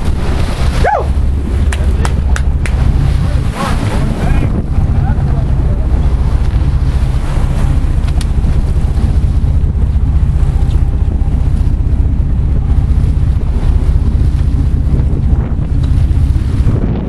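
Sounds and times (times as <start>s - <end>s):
sea washing around boat: 0.0s - 17.0s
wind buffeting microphone: 0.0s - 17.0s.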